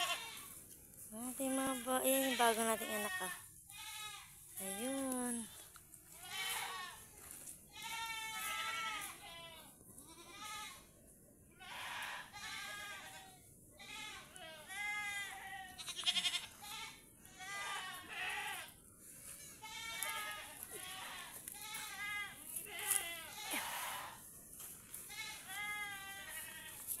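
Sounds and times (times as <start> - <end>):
goats bleating: 0.0 - 0.5, 2.0 - 7.0, 7.7 - 10.8, 11.6 - 18.7, 19.4 - 24.2, 25.1 - 27.0.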